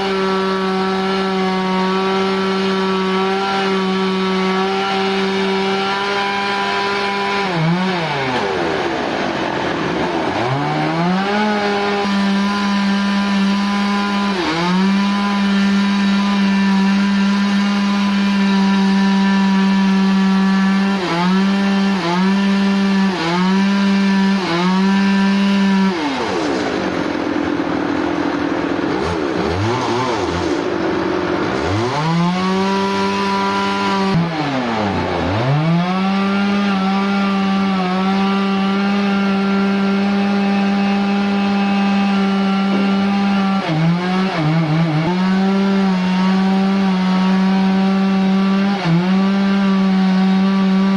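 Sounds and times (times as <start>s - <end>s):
motor saw cutting wood: 0.0s - 50.9s.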